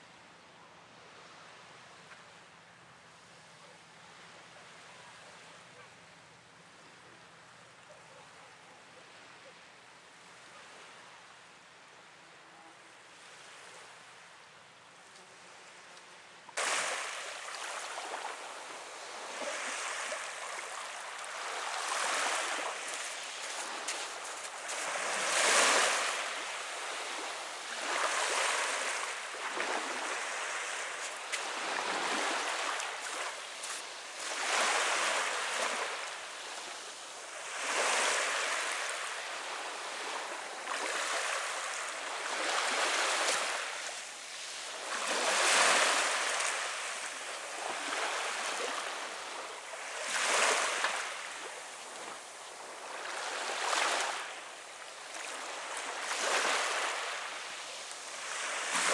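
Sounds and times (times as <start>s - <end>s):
small waves lapping on shore: 9.0s - 58.9s.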